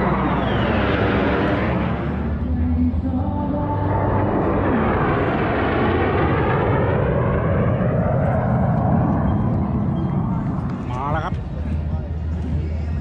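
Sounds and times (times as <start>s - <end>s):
aircraft flying past: 0.0s - 12.9s.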